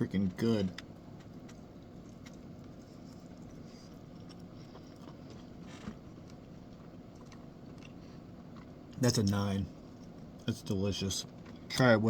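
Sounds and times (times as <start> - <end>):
low background hum: 0.0 - 12.0
chewing fried chicken: 0.7 - 10.4, 11.2 - 11.8.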